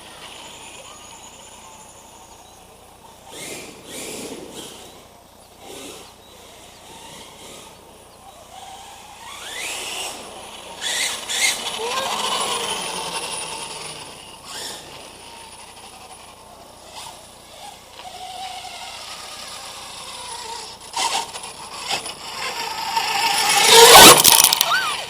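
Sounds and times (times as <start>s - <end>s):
electric motor whine: 0.0s - 25.0s.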